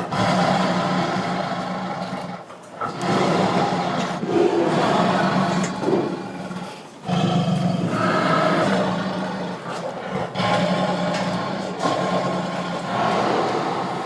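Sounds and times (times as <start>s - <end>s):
tiger roaring and growling: 0.0s - 14.0s.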